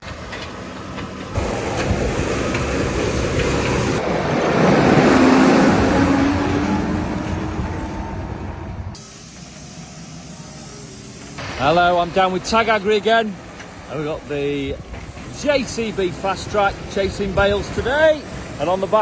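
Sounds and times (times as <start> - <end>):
tractor engine driving by: 0.0 - 19.0.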